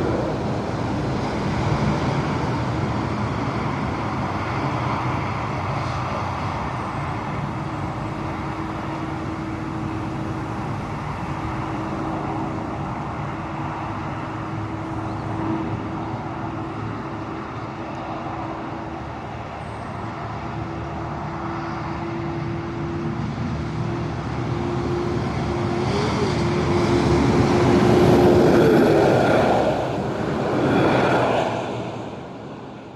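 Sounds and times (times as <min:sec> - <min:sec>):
heavy truck passing: 0:00.0 - 0:32.9
highway traffic drone: 0:00.0 - 0:32.9.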